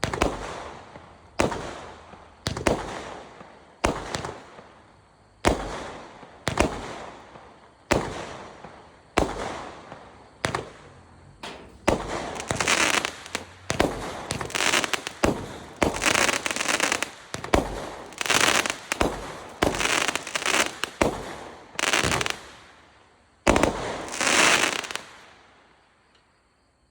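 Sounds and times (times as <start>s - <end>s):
fireworks bangs: 0.0s - 4.8s, 5.4s - 22.8s, 23.4s - 25.4s
fireworks crackling bursts: 0.0s - 25.5s.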